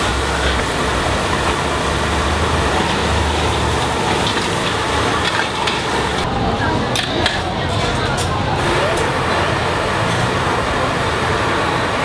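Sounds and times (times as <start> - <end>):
gas burners roaring: 0.0 - 12.0.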